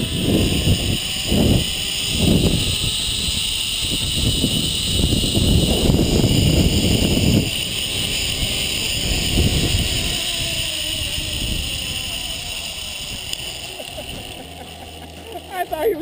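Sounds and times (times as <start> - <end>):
wind buffeting microphone: 0.0 - 14.5
pulleys whining on cable: 0.0 - 16.0.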